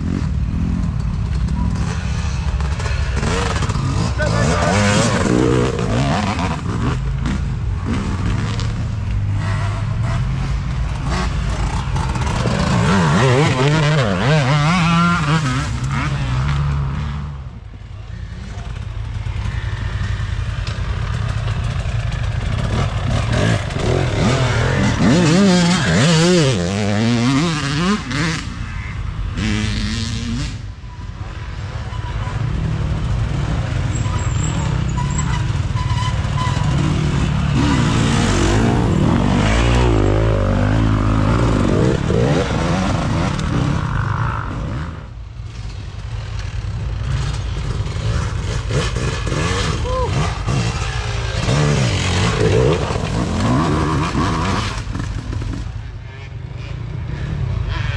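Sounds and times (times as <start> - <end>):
dirt bike engines revving: 0.0 - 57.9.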